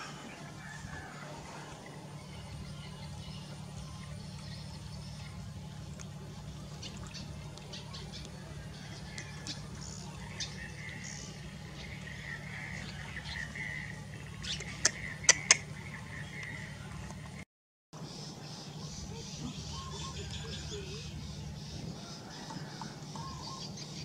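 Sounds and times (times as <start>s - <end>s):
birds chirping: 0.0s - 17.4s, 18.0s - 24.0s
steady low hum: 0.0s - 17.4s, 18.0s - 24.0s.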